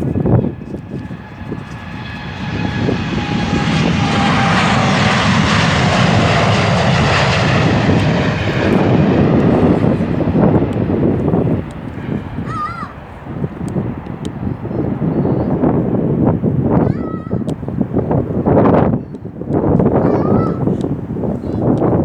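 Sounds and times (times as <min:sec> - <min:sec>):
jet engines roaring past: 0:00.0 - 0:22.0.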